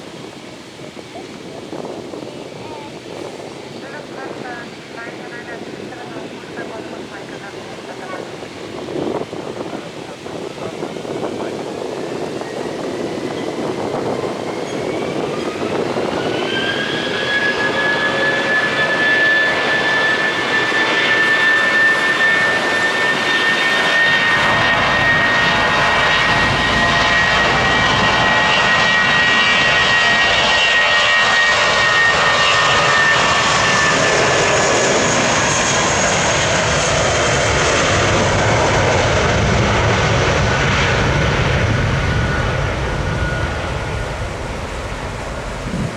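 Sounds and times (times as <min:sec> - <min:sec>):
jet engine deep roar: 0:00.0 - 0:45.9
jet engine whine: 0:00.0 - 0:45.9.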